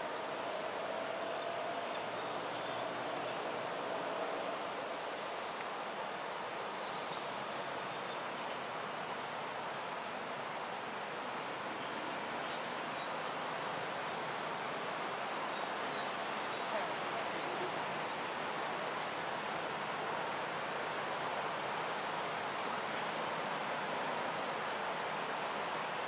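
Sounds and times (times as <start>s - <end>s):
background hiss: 0.0s - 26.0s
insects humming: 0.0s - 26.0s.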